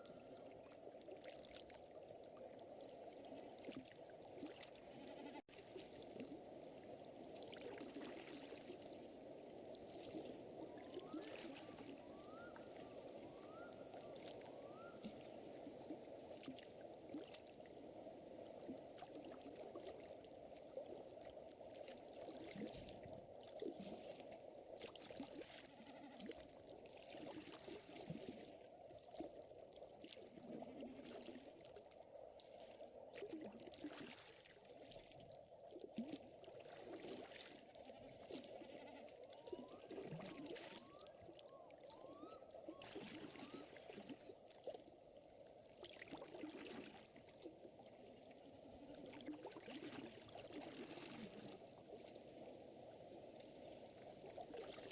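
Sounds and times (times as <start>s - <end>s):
trickling lake water: 0.0s - 54.9s.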